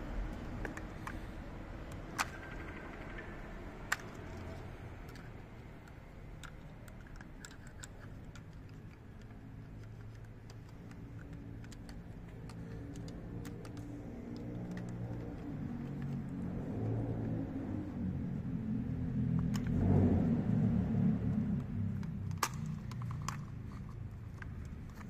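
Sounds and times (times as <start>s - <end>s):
small clicks and taps of parts: 0.2s - 18.0s, 19.1s - 19.8s, 21.2s - 25.0s.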